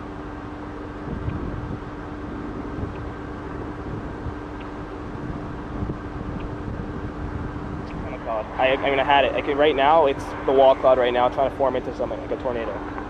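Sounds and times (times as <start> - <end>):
vehicle running rumble: 0.0 - 13.0.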